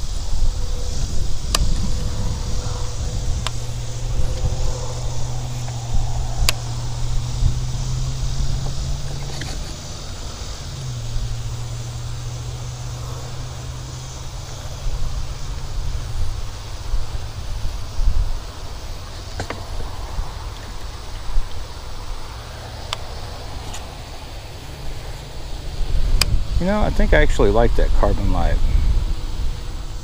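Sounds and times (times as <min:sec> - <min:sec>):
motor humming: 0:00.0 - 0:26.6.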